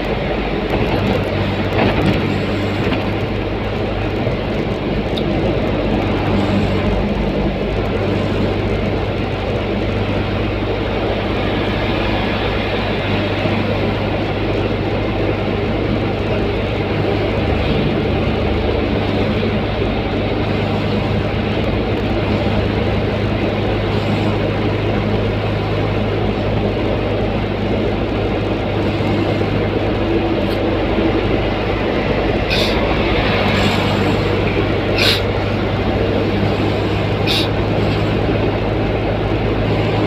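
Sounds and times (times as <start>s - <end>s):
engine hum and tyre noise: 0.0s - 40.0s.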